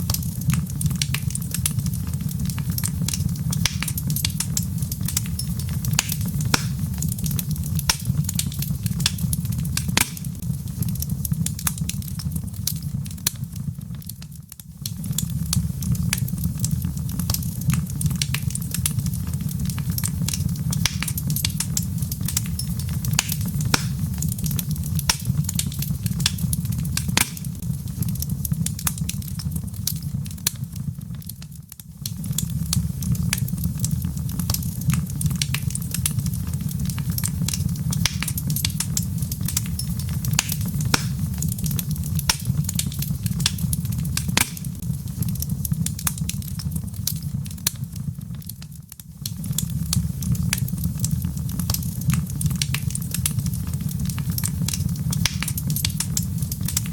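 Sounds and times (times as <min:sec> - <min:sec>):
fire flames rumbling: 0:00.0 - 0:56.9
logs crackling and popping: 0:00.0 - 0:56.9.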